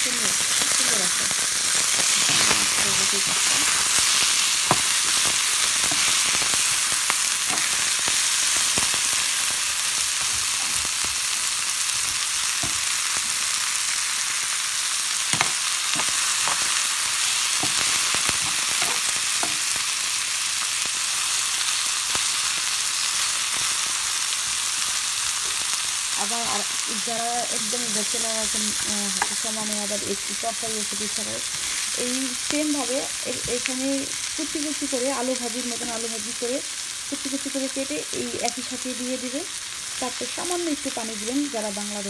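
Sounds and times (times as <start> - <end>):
fish sizzling in hot oil: 0.0 - 42.0.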